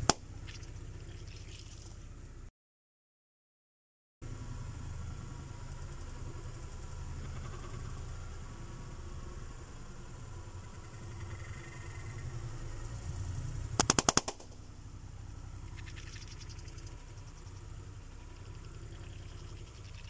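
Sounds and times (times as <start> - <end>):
car engine rumbling: 0.0 - 2.5, 4.2 - 20.0.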